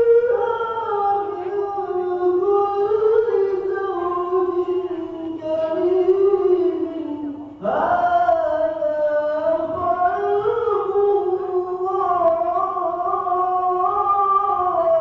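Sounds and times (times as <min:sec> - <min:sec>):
man reciting melodically into microphone: 0:00.0 - 0:15.0.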